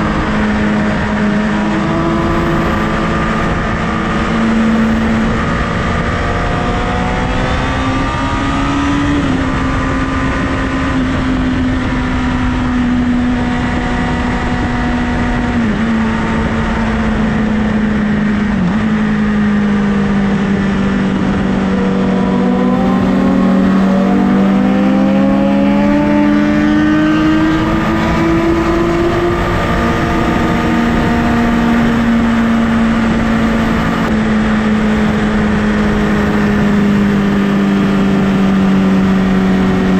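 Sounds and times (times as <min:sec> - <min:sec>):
motorcycle engine cruising: 0:00.0 - 0:39.9
wind noise rushing: 0:00.0 - 0:39.9.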